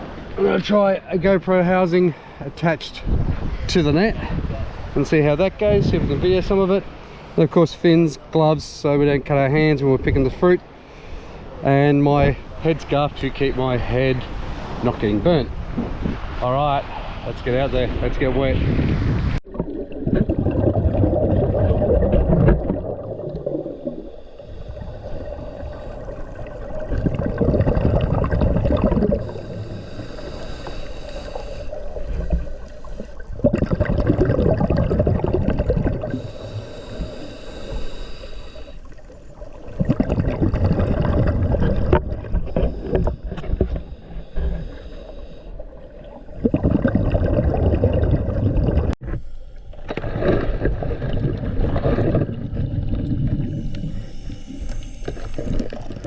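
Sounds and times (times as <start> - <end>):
water sloshing and gurgling: 0.0 - 56.0.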